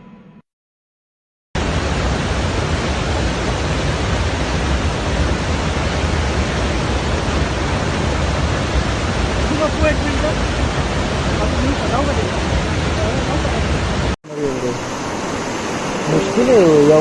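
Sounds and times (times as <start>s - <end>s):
deep rumble: 1.6s - 16.8s
floodwater rushing: 1.6s - 17.0s
torrential rain: 1.6s - 17.0s.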